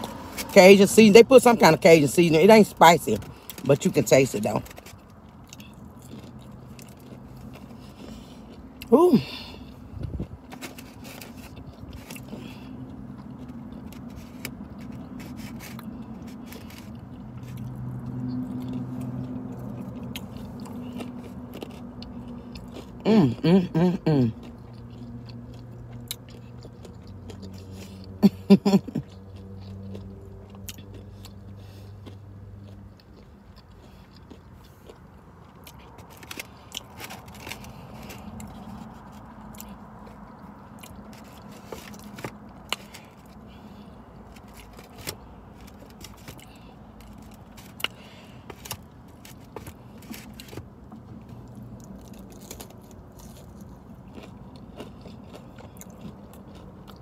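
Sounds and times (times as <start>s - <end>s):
person chewing fried food: 2.6s - 3.7s, 4.6s - 57.0s.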